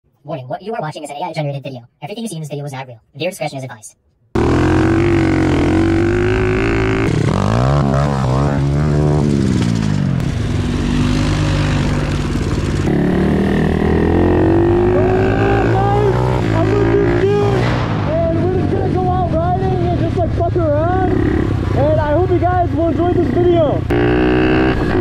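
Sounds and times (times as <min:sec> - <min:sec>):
motorbike engines revving: 0:04.4 - 0:25.0.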